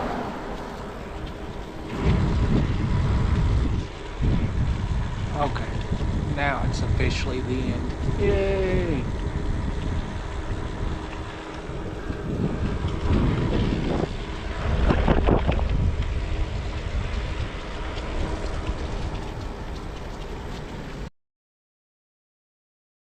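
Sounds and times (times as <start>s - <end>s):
wind buffeting microphone: 0.0s - 21.1s.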